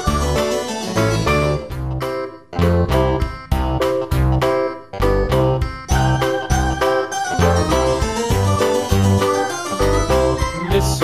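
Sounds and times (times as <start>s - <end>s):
keyboard notes over strong bass: 0.0s - 11.0s.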